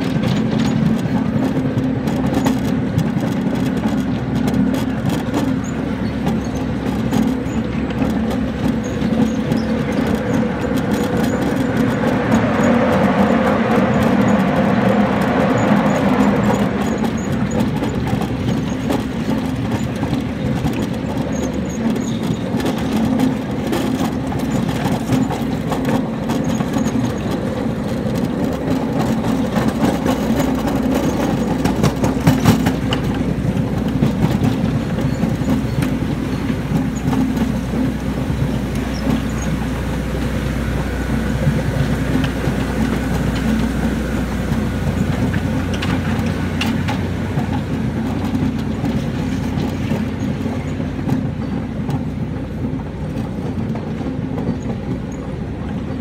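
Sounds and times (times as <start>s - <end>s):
miniature train droning: 0.0s - 56.0s
wheels clacking over rails: 0.0s - 56.0s.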